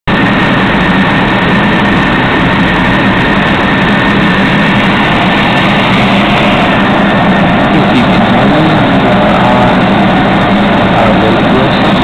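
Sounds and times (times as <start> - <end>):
jet airliner cabin noise: 0.1 - 12.0.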